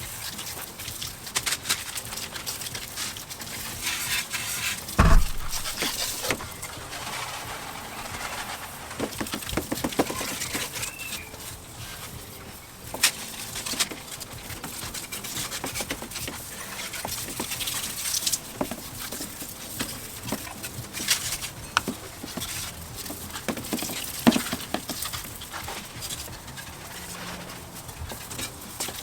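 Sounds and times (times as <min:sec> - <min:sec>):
droplets pattering on engine: 0:00.0 - 0:29.0
hose spraying water mist: 0:00.0 - 0:29.0.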